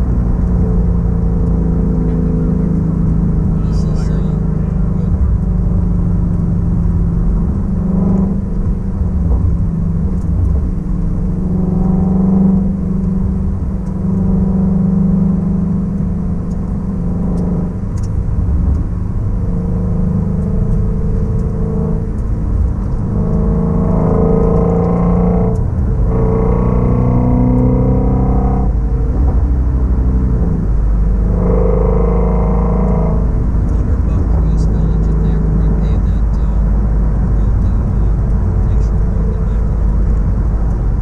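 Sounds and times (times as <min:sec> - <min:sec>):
car engine drone: 0:00.0 - 0:41.0
road rumble: 0:00.0 - 0:41.0.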